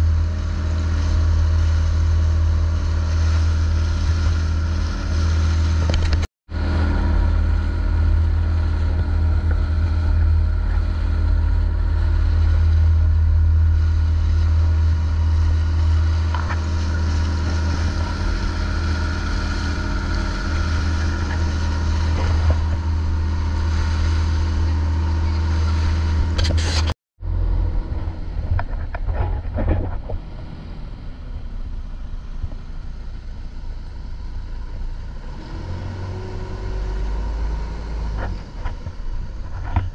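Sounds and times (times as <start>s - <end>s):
boat engine humming: 0.0s - 39.9s
rushing water: 0.0s - 39.9s.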